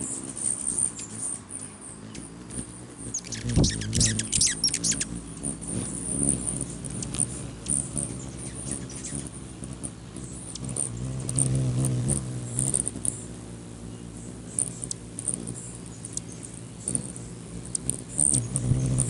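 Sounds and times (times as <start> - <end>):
squeaky chittering bird calls: 0.0 - 11.6, 12.6 - 19.0
hummingbird wings humming: 0.0 - 19.0.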